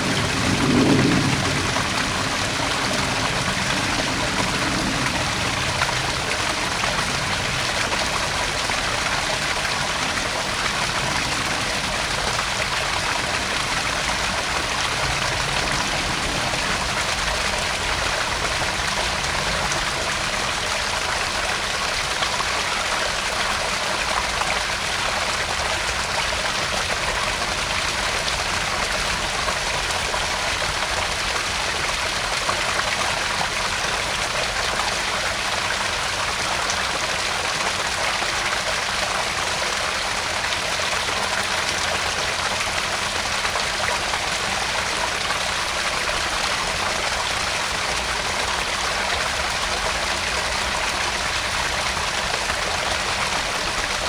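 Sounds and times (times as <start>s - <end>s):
water splashing into pond: 0.0s - 54.0s.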